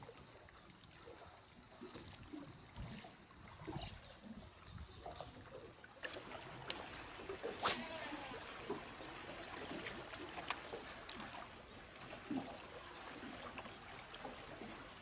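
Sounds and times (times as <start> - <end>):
water lapping at a boat: 0.0 - 15.0.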